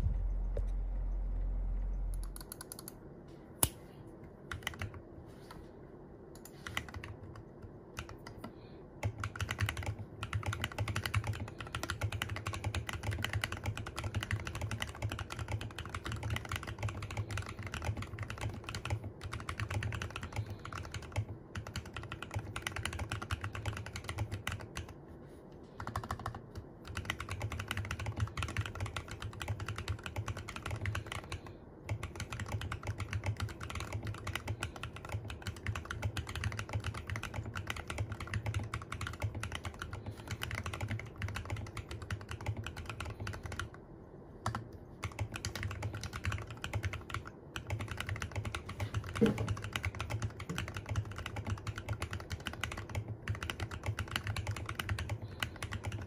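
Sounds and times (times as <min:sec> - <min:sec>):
mechanical keyboard typing: 0:02.1 - 0:03.0, 0:04.5 - 0:05.0, 0:06.4 - 0:25.0, 0:25.8 - 0:43.8, 0:44.4 - 0:56.0.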